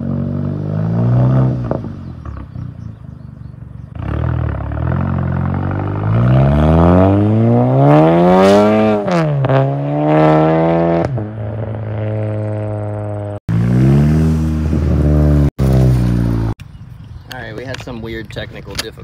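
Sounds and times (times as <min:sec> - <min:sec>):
car engine accelerating: 0:00.0 - 0:16.6.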